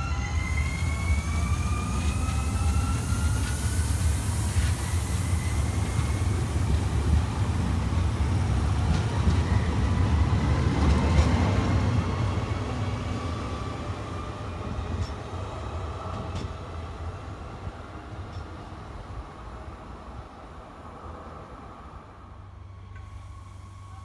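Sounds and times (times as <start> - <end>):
train heavy rumble: 0.0 - 24.0.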